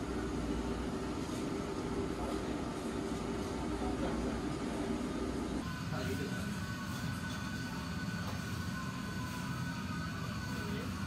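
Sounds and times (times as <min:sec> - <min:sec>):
restaurant room noise: 0:00.0 - 0:11.0.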